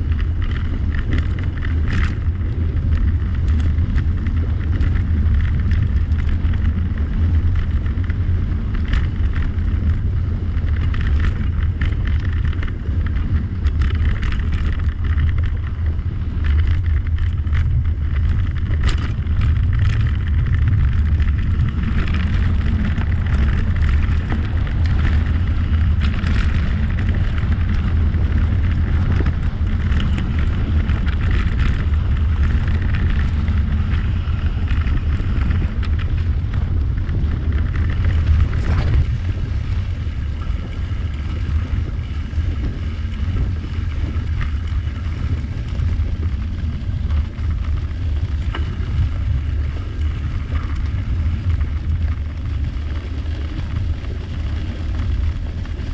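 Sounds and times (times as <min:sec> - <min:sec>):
light clicks and rattles: 0:00.0 - 0:55.9
tyre and road noise: 0:00.0 - 0:55.9
wind buffeting microphone: 0:00.0 - 0:55.9.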